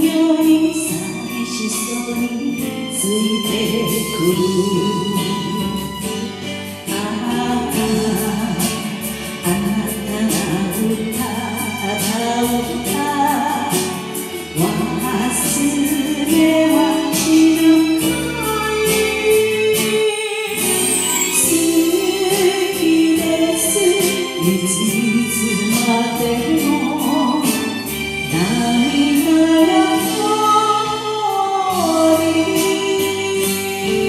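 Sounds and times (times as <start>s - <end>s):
instrumental backing: 0.0s - 34.0s
woman singing: 0.0s - 34.0s.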